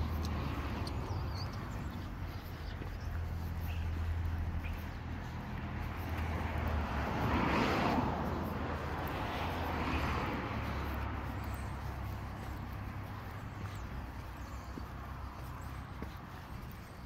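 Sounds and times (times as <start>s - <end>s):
low engine hum: 0.0s - 17.0s
motor vehicle passing: 0.0s - 17.0s.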